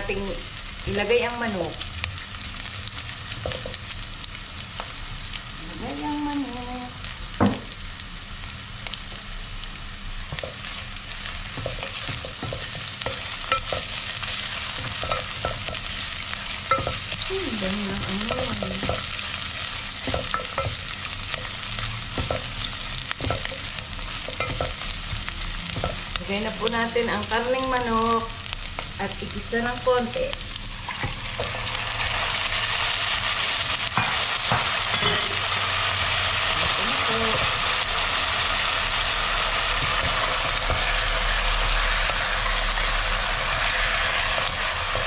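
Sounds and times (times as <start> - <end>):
onion sizzling in oil: 0.0 - 45.0.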